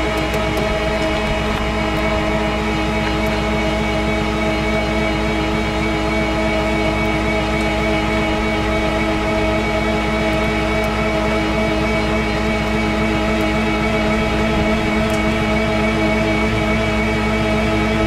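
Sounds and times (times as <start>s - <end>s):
truck engine idling with whine: 0.0s - 18.0s.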